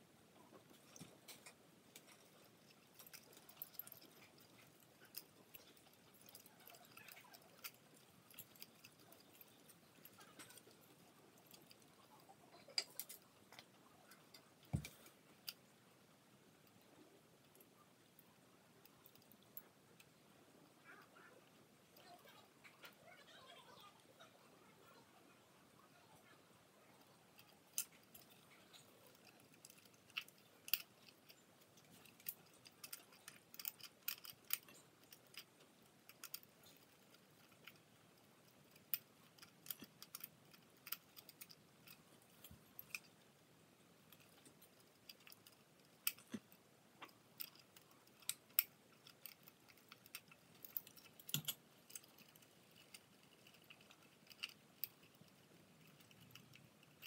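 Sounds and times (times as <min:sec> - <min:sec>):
small parts clicking and tapping: 0:00.4 - 0:23.4, 0:26.0 - 0:57.0.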